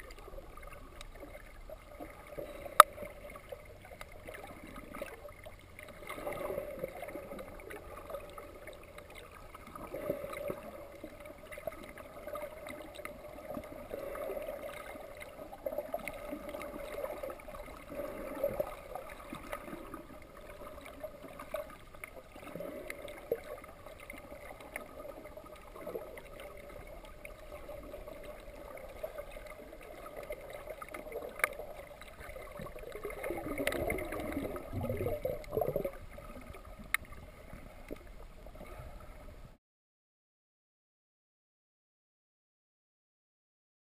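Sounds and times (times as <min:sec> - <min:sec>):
underwater hum: 0:00.0 - 0:39.6
watery surges: 0:00.0 - 0:39.6.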